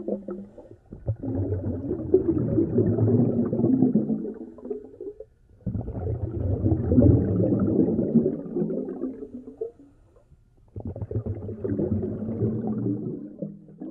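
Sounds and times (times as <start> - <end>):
underwater breath bubbling: 0.0 - 9.9, 10.7 - 13.9.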